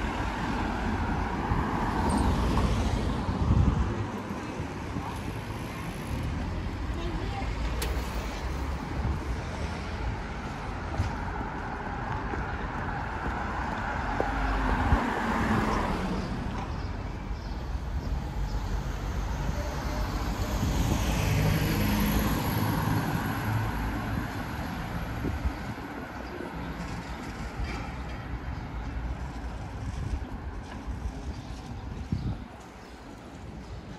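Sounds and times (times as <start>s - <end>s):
vehicles passing by: 0.0s - 33.9s.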